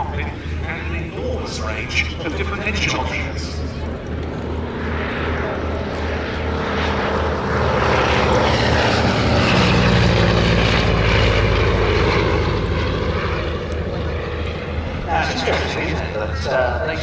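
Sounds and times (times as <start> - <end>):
biplane engine droning past: 0.0 - 17.0.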